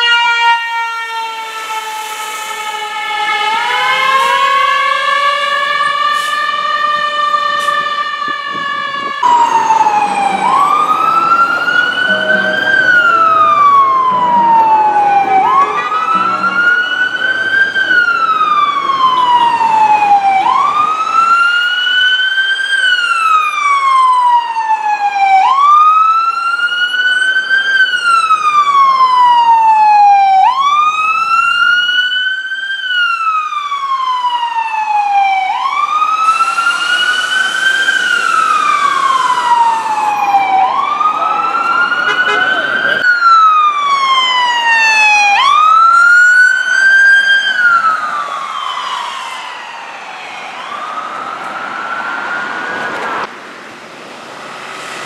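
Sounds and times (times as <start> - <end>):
ambulance siren wailing: 0.0 - 53.3.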